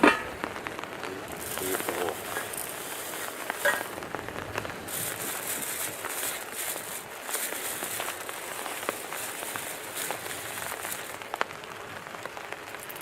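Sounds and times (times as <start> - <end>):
hiss and crackle of cooking: 0.0 - 13.0.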